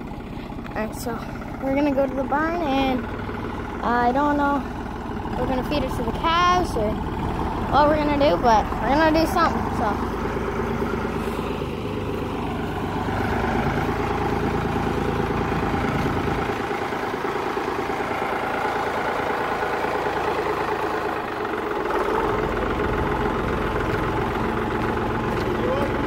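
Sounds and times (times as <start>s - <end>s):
tractor engine rumbling: 0.0s - 26.0s.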